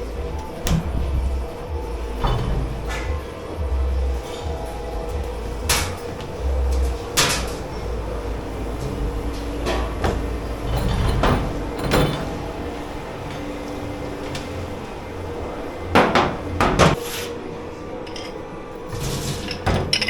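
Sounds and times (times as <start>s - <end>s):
dishwashing gear clattering: 0.0s - 17.0s, 18.0s - 20.0s
kitchen machinery hum: 0.0s - 20.0s.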